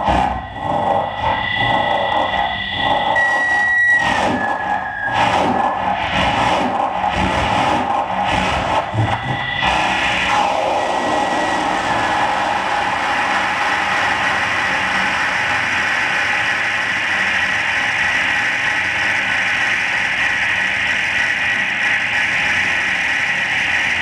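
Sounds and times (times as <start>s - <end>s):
thin high whine: 0.0s - 22.7s
harsh distorted noise music: 0.0s - 24.0s.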